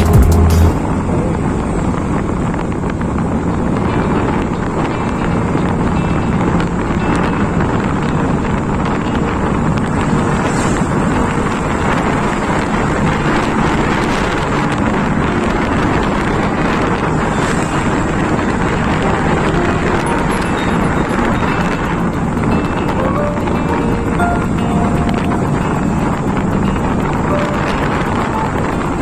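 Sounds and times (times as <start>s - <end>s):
motorcycle road and engine noise: 0.0s - 29.0s
wind rushing over microphone: 0.7s - 29.0s.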